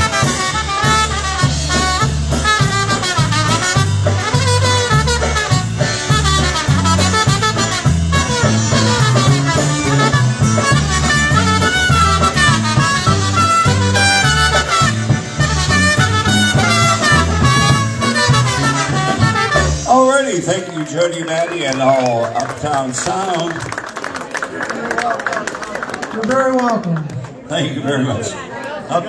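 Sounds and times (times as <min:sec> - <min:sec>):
polka band playing: 0:00.0 - 0:24.8.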